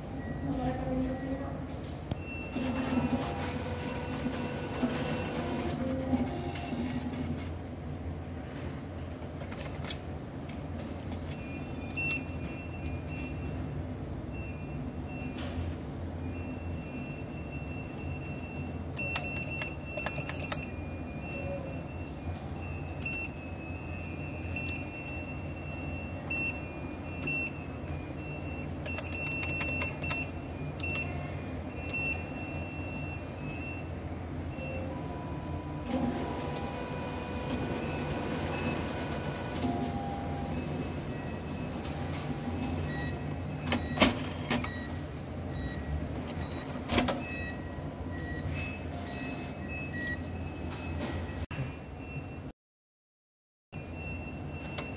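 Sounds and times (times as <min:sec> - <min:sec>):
low mechanical hum: 0:00.0 - 0:52.4.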